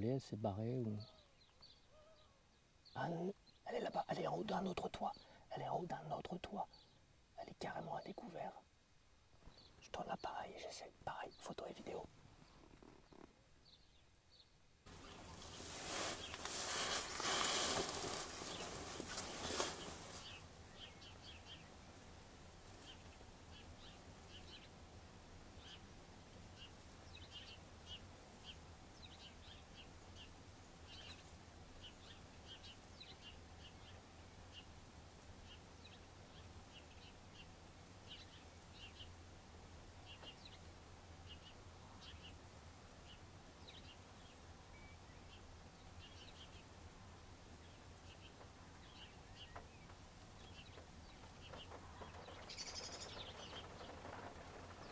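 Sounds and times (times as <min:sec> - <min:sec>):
faint low hum: 0:00.0 - 0:54.9
small birds chirping: 0:00.0 - 0:54.9.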